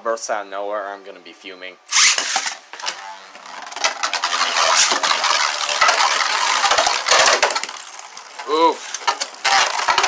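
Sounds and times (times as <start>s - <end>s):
spinning tops colliding: 1.9s - 10.0s.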